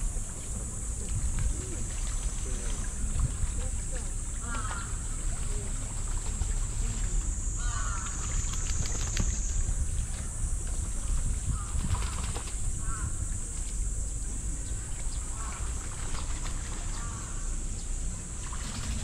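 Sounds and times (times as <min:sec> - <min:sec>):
high-pitched insect drone: 0:00.0 - 0:17.9
wind rumbling on microphone: 0:00.0 - 0:19.0.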